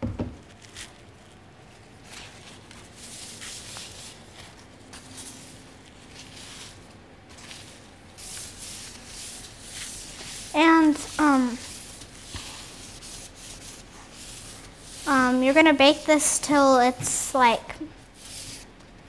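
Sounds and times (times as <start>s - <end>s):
soft kitchen scrapes and rustles: 0.4s - 18.8s.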